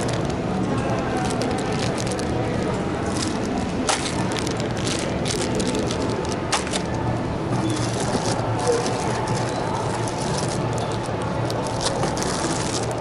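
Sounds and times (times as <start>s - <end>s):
merchandise clicks and clatter: 0.0s - 13.0s
shoppers bustle: 0.0s - 13.0s.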